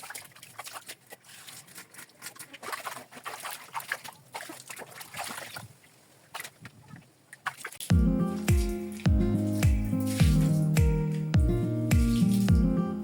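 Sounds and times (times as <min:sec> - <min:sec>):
scrubbing: 0:00.0 - 0:12.7
water sloshing: 0:00.0 - 0:12.8.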